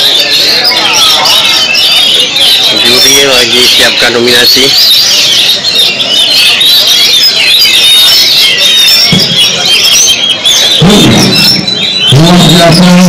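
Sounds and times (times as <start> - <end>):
songbirds chorus chirping: 0.0 - 13.0.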